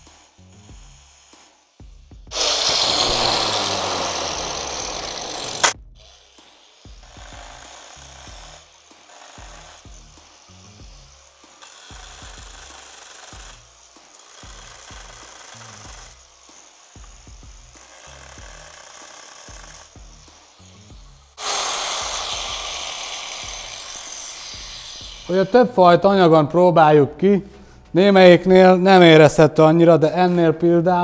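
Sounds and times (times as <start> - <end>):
angle grinder cutting tile: 0.0 - 26.0.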